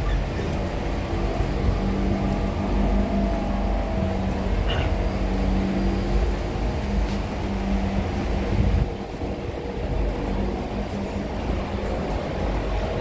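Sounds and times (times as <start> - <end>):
traction motor whine: 0.0 - 13.0
wheels rumbling on track: 0.0 - 13.0.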